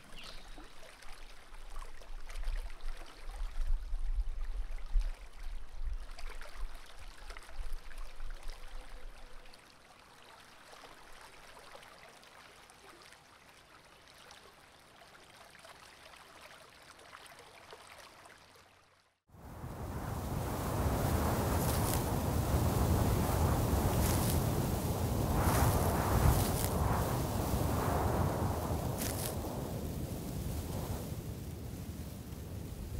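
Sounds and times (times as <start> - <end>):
stream water flowing: 4.4 - 32.9.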